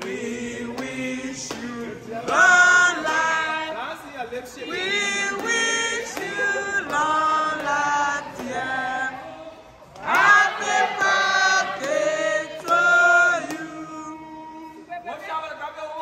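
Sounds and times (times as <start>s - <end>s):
group of people singing together: 0.0s - 14.9s.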